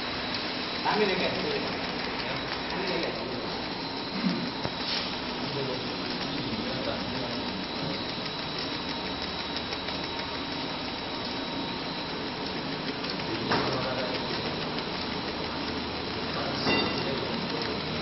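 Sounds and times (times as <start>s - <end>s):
printing machine humming: 0.0s - 18.0s.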